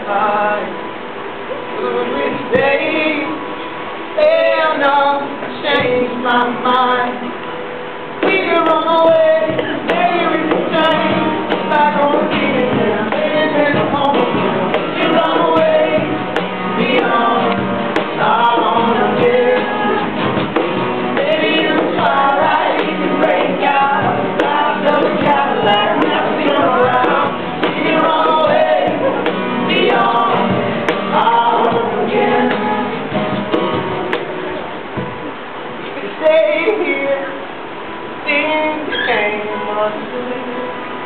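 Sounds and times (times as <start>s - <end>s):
voices singing: 0.0s - 7.4s, 8.1s - 33.8s
acoustic guitar: 0.0s - 41.0s.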